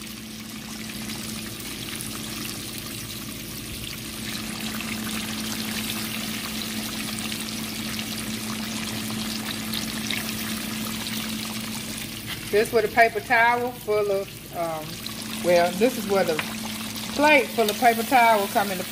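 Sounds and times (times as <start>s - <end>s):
fish deep-frying in oil: 0.0s - 18.9s
low steady hum: 0.0s - 18.9s.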